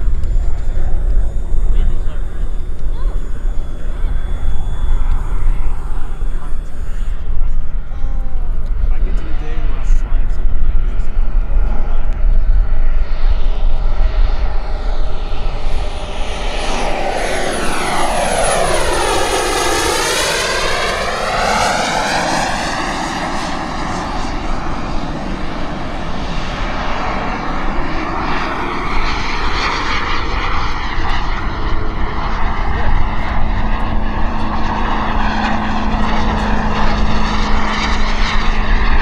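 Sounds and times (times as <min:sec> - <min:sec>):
high turbine whine: 0:00.0 - 0:39.0
jet turbine rush passing: 0:00.0 - 0:39.0.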